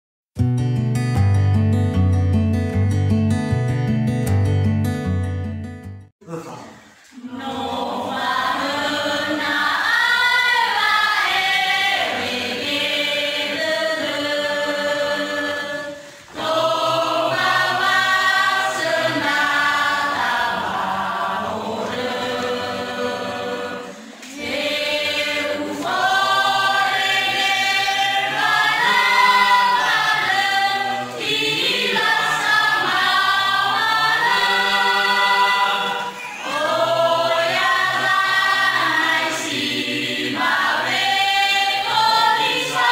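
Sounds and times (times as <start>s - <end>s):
mixed choir singing a hymn: 7.2s - 42.9s.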